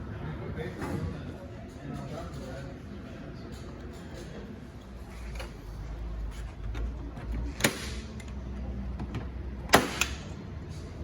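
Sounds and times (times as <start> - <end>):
low shop hum: 0.0 - 11.0.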